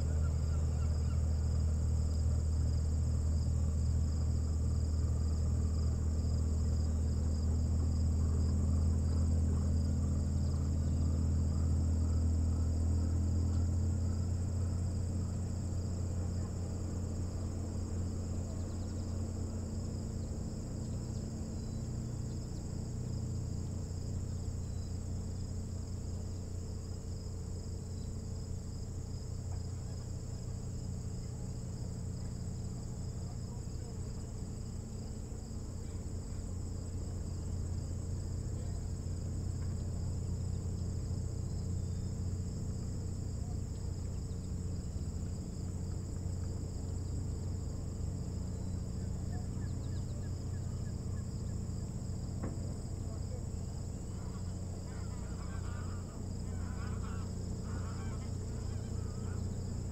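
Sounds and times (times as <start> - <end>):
constant low hum: 0.0 - 59.9
crickets chirping: 0.0 - 59.9.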